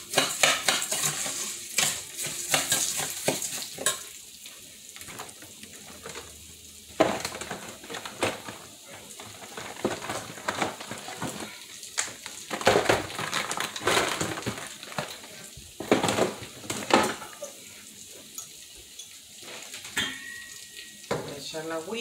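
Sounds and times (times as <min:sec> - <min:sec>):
rice sizzling in oil: 0:00.0 - 0:22.0.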